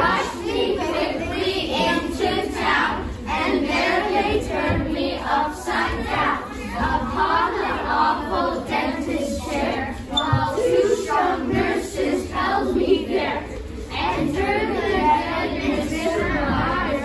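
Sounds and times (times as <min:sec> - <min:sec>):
children reciting in unison: 0:00.0 - 0:17.0.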